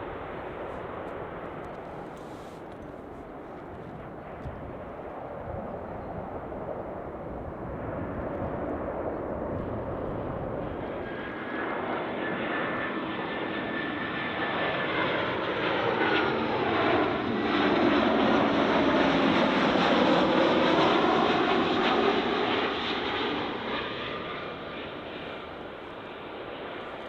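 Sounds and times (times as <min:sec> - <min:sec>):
jet airliner engines approaching: 0:00.0 - 0:27.0.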